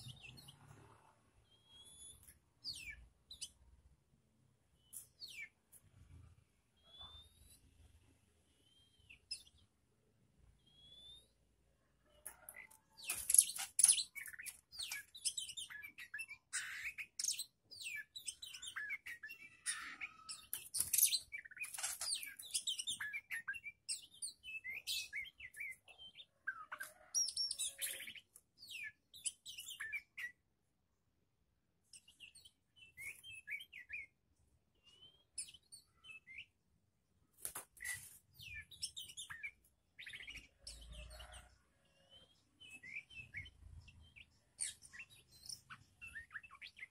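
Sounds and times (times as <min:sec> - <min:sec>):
songbirds chirping and whistling: 0:00.0 - 0:04.0, 0:04.6 - 0:30.6, 0:31.8 - 0:46.9.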